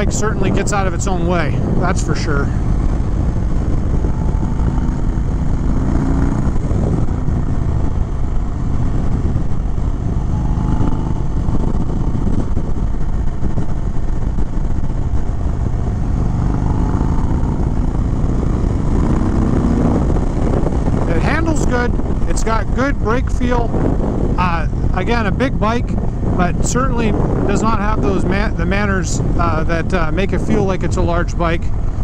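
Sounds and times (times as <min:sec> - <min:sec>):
motorcycle engine running: 0:00.0 - 0:32.0
wind rush: 0:00.0 - 0:32.0.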